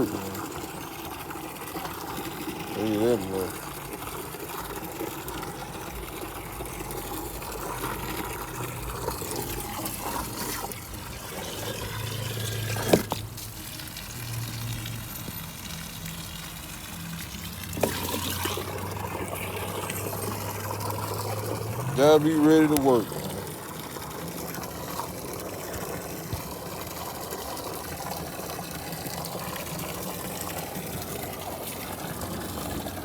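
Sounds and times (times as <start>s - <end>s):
water pouring: 0.0s - 33.0s.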